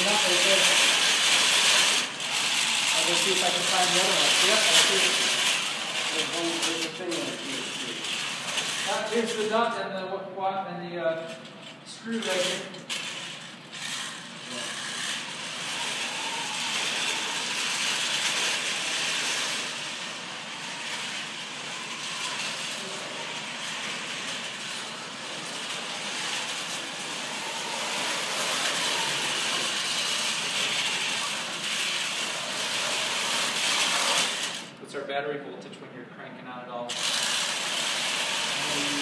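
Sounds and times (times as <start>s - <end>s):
robot motors whirring: 0.0s - 9.6s, 12.1s - 34.7s, 36.9s - 39.0s.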